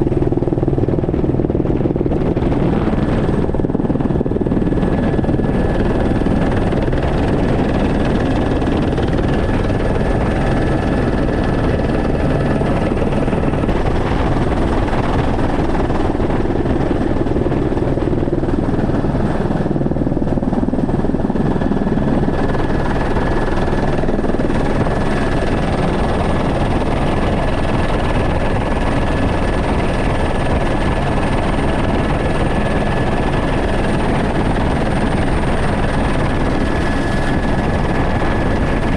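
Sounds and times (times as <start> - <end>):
helicopter rotor and engine noise: 0.0 - 38.9.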